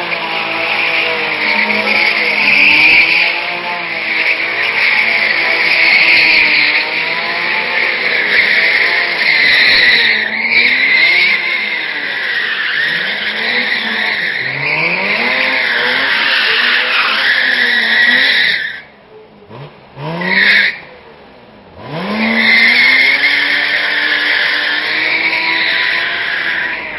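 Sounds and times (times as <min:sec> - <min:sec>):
tyres squealing: 0:00.0 - 0:18.9, 0:22.2 - 0:26.9
car engine revving: 0:00.0 - 0:26.9.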